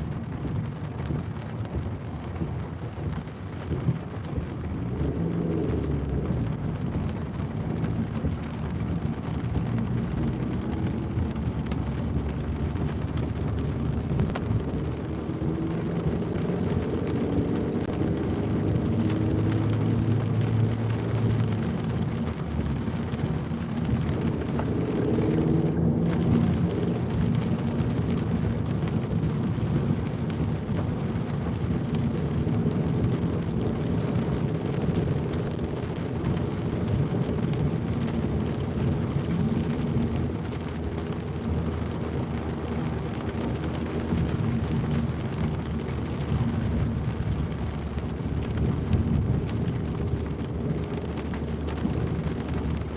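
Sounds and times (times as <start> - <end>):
rain: 0.0 - 52.9
passing vehicles humming: 0.1 - 52.9.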